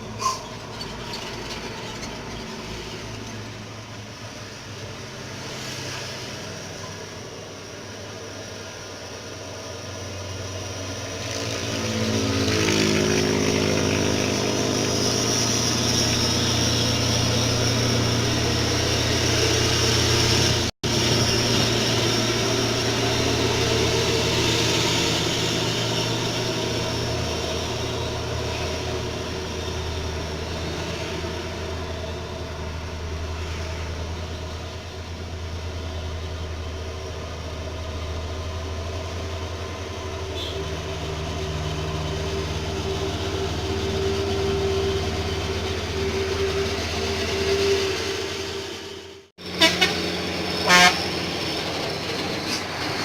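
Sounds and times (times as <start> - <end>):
truck engine pulling uphill: 0.0 - 53.0.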